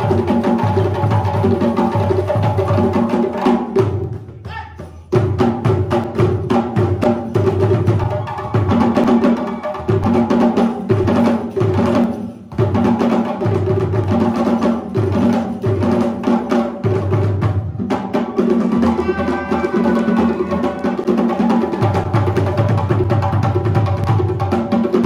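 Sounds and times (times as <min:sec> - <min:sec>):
hand drums playing fast rhythm: 0:00.0 - 0:25.0.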